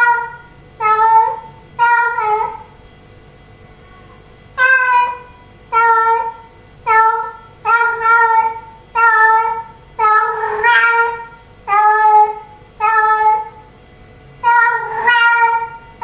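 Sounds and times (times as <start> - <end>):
cat meowing: 0.0 - 2.7, 4.0 - 13.6, 14.4 - 16.0.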